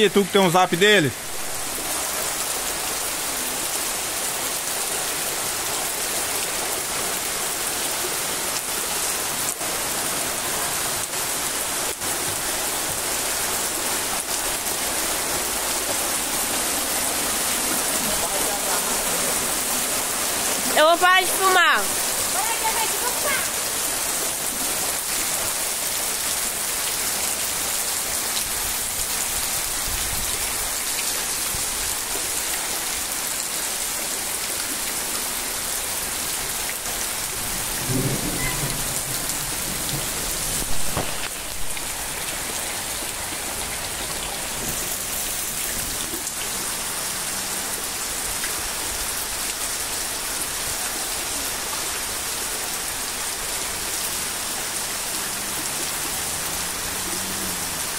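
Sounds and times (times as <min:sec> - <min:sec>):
heavy rain hitting water: 0:00.0 - 0:57.9.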